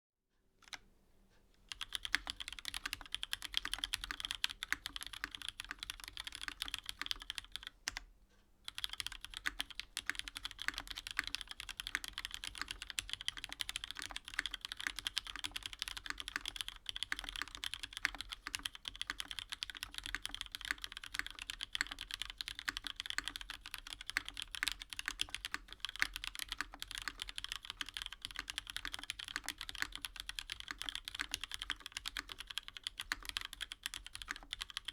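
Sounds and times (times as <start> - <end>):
mechanical keyboard typing: 1.7 - 8.1, 8.7 - 34.9.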